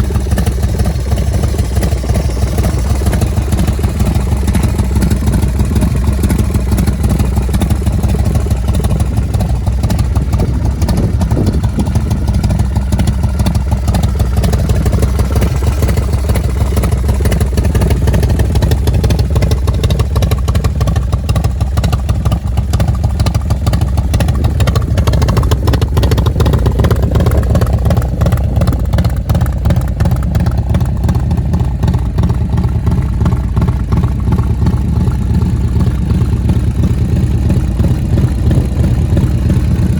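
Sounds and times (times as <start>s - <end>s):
motorcycle engine deep exhaust note: 0.0s - 39.9s.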